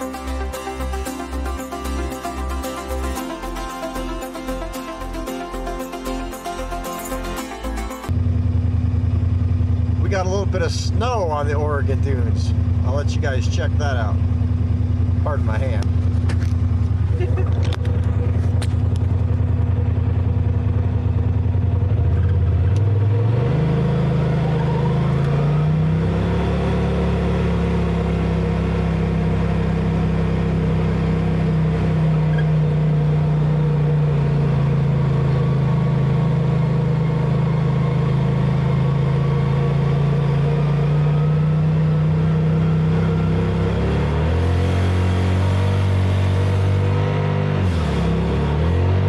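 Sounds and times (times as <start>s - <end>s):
car engine from inside cab: 0.0s - 49.0s.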